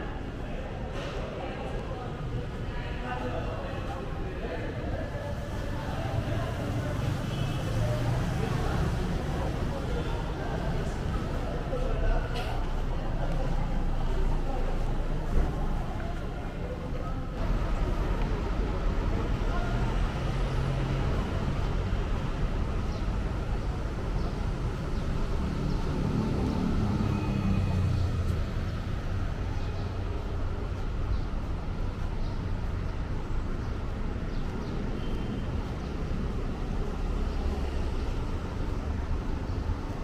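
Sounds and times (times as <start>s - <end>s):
engine rumble: 0.0s - 40.0s
street traffic: 0.0s - 40.0s.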